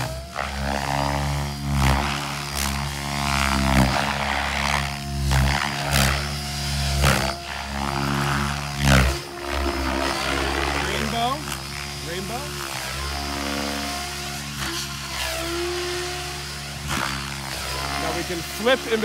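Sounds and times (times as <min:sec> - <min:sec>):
rc helicopter rotor hum: 0:00.0 - 0:19.0
rotor blades whooshing: 0:00.0 - 0:19.0.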